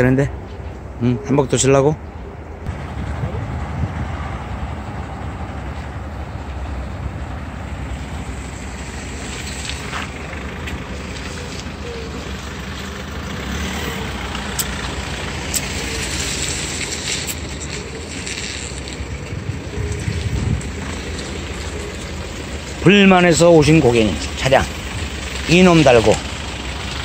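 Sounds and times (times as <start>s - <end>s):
diesel engine rumbling: 0.0s - 27.0s
road noise: 0.0s - 27.0s.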